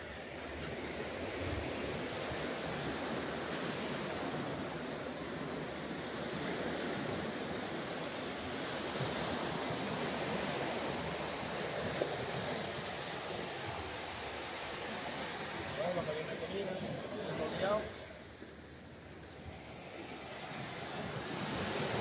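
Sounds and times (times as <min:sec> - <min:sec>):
waves washing onto beach: 0:00.0 - 0:22.0.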